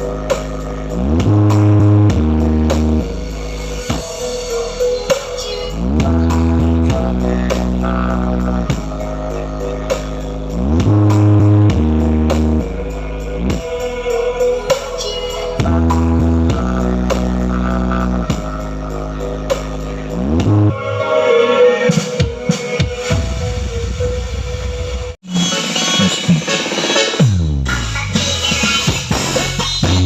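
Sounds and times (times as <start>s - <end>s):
bass-heavy dance music: 0.0s - 24.1s, 24.8s - 30.0s.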